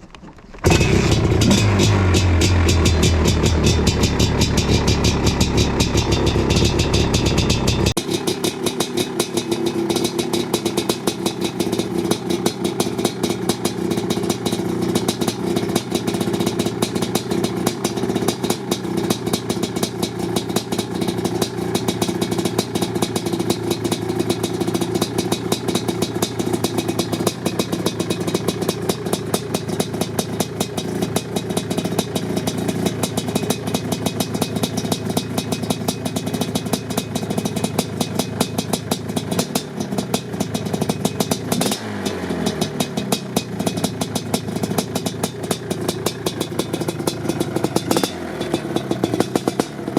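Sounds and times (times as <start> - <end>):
quad bike two-stroke engine running: 0.3 - 49.9.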